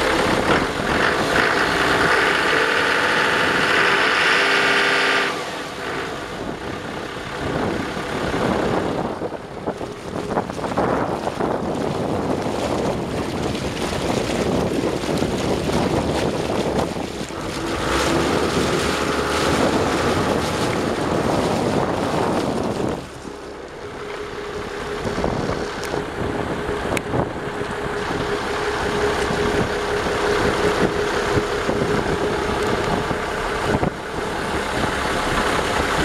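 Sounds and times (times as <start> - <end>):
boat engine hum: 0.0 - 36.0
propeller wash churning water: 0.0 - 36.0.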